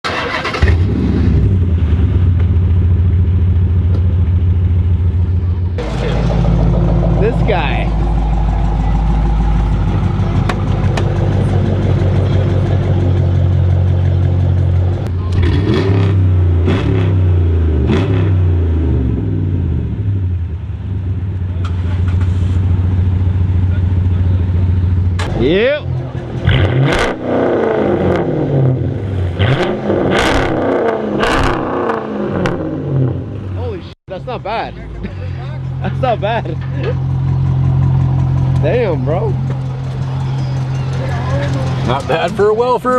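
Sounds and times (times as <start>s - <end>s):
car engine idling: 0.1s - 29.0s, 32.9s - 42.9s.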